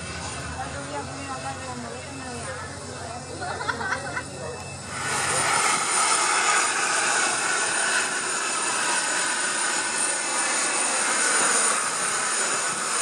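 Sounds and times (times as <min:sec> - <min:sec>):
thin high turbine whine: 0:00.0 - 0:13.0
jet turbine hiss: 0:02.4 - 0:13.0.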